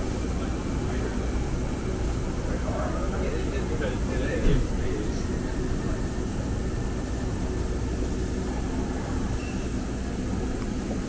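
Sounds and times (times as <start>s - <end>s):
light rail car rumbling: 0.0s - 11.0s.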